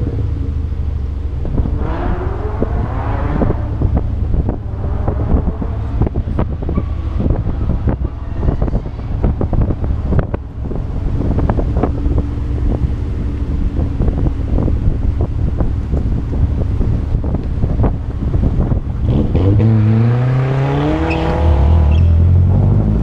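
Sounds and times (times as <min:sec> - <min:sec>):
vehicle engine low rumble: 0:00.0 - 0:23.0
wind buffeting on microphone: 0:00.2 - 0:23.0.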